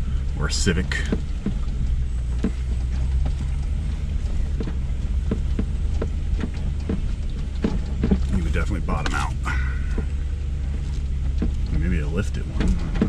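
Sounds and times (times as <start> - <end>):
engine low hum: 0.0 - 13.0
suspension knocks and clunks: 0.0 - 13.0.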